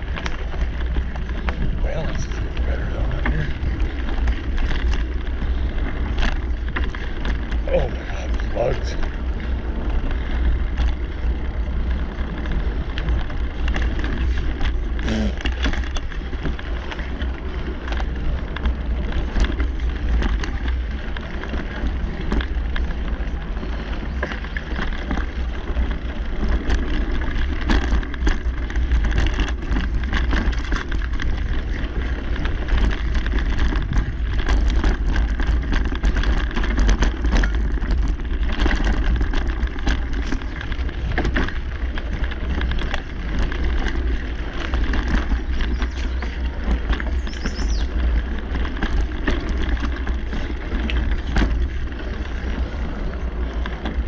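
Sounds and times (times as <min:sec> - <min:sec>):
bike clicks and rattles: 0:00.0 - 0:54.0
bike tyres rumbling on dirt: 0:00.0 - 0:54.0.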